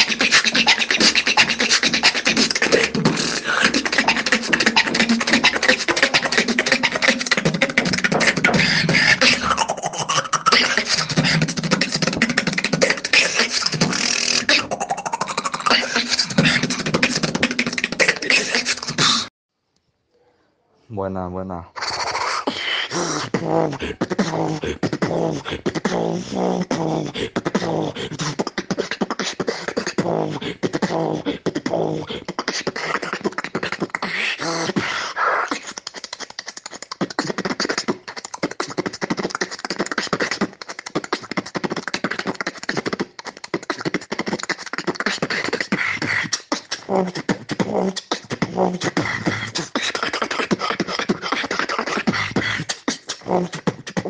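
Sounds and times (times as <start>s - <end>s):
person beatboxing: 0.0s - 19.3s, 21.8s - 54.0s.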